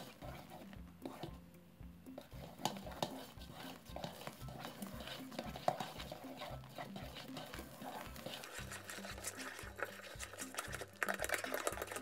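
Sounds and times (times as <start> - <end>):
whisk beating slime: 0.0 - 1.4, 2.1 - 12.0
soft background music: 0.0 - 12.0
whisk clicking against bowl: 2.2 - 12.0.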